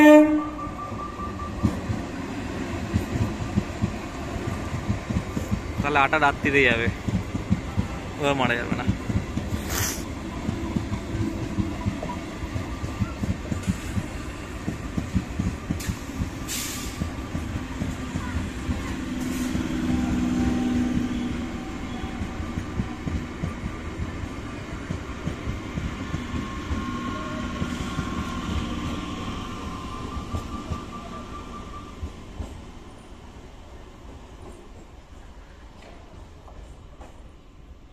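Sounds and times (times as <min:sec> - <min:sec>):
train wheels rumbling on rail: 0:00.0 - 0:37.7.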